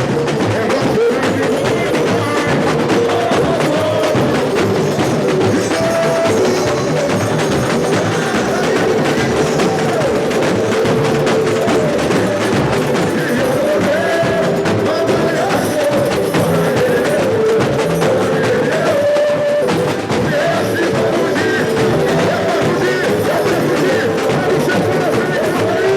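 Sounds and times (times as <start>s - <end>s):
samba drums and percussion: 0.0s - 25.9s.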